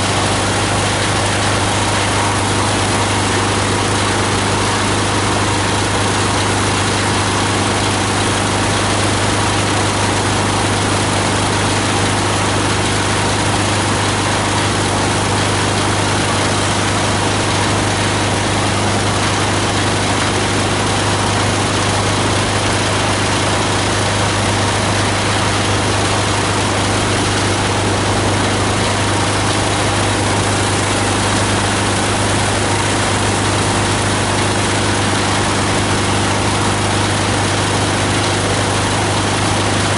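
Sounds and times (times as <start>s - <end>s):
plastic grinder running: 0.0s - 39.9s.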